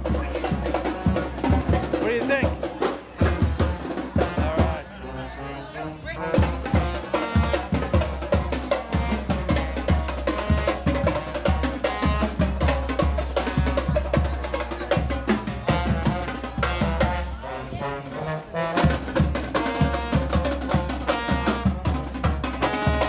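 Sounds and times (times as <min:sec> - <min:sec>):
snare and bass drums: 0:00.0 - 0:04.9, 0:06.2 - 0:17.4, 0:18.2 - 0:23.0
brass band playing: 0:00.0 - 0:23.0.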